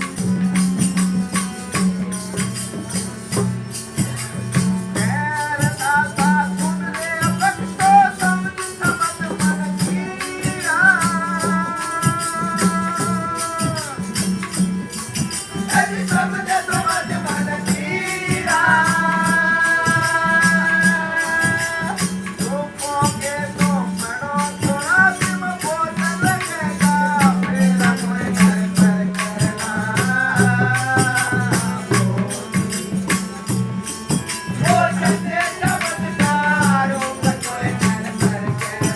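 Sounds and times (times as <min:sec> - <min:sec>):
jingling percussion: 0:00.0 - 0:38.9
devotional vocal melody: 0:04.4 - 0:38.9.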